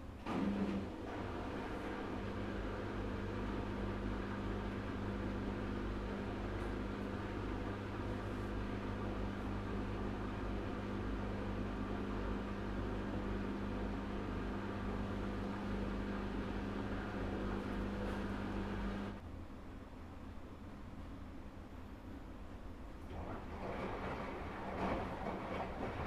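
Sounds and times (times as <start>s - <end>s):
washing machine humming: 0.0s - 19.2s, 22.7s - 26.0s.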